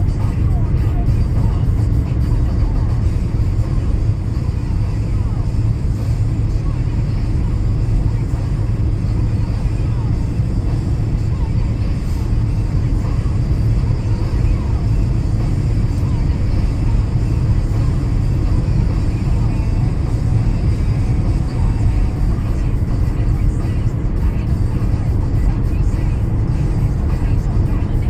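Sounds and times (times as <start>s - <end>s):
car tyres on wet road: 0.0s - 28.0s.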